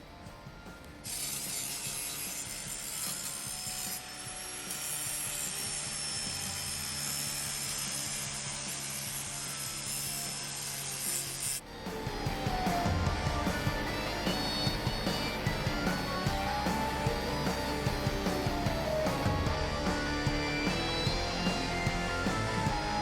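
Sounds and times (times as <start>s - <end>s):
abrasive power tool on steel: 0.7s - 23.0s.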